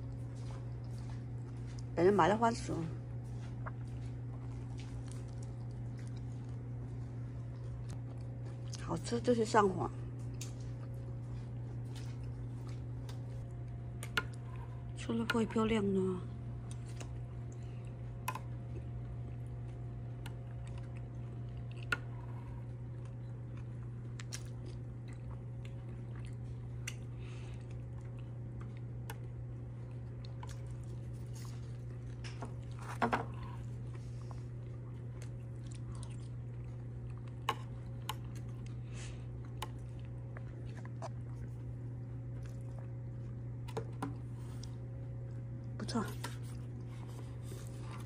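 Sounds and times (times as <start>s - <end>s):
person chewing cake: 0.0s - 2.0s, 3.1s - 8.8s, 10.1s - 15.0s, 16.5s - 48.0s
steady low hum: 0.0s - 48.0s.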